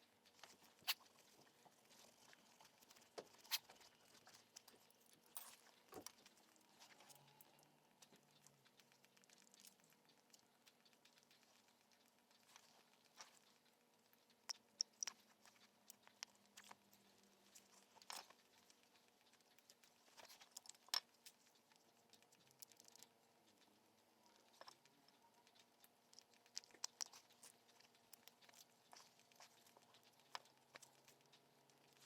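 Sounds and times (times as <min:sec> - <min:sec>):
small parts clicking and tapping: 0:00.2 - 0:32.0.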